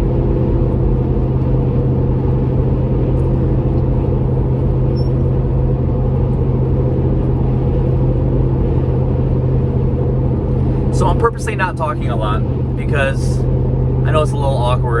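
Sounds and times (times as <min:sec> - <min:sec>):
low exhaust drone: 0:00.0 - 0:15.0.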